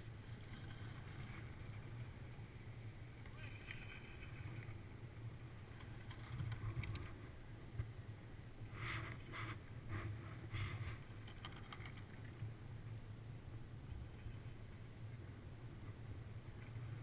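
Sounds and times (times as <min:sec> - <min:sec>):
low rumble of sliding on snow: 0:00.0 - 0:17.0.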